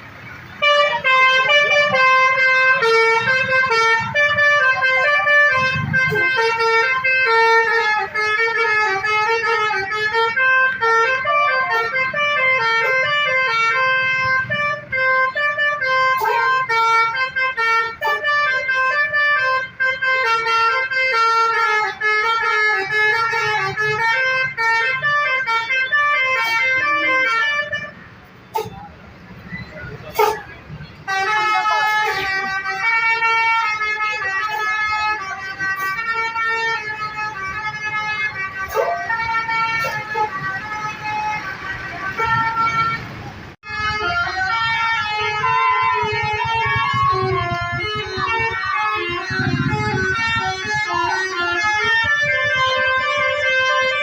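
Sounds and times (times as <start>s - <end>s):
bus melody horn: 0.1s - 54.0s.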